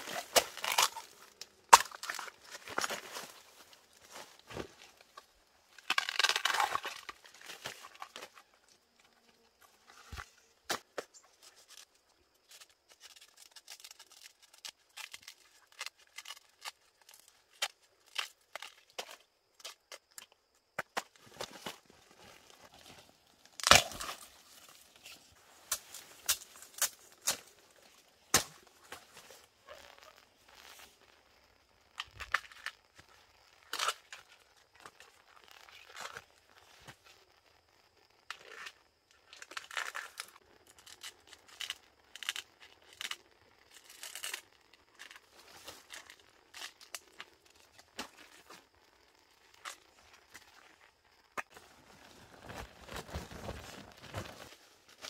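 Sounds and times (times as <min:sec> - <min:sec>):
bamboo sheaths tearing and crackling: 0:00.0 - 0:08.8, 0:09.6 - 0:55.0.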